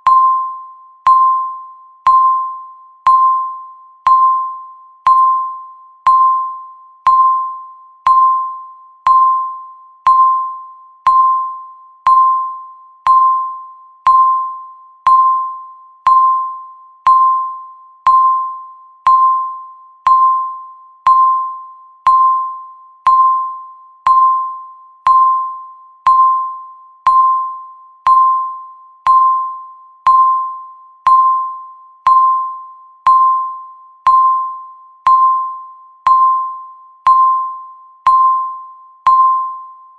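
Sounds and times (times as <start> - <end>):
timer electronic ding: 0.0 - 39.9.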